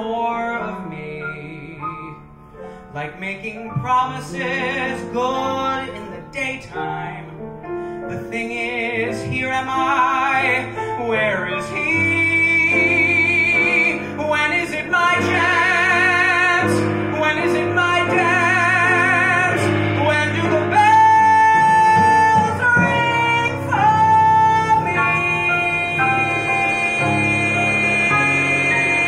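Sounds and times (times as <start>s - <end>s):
man singing jazz ballad: 0.0s - 29.0s.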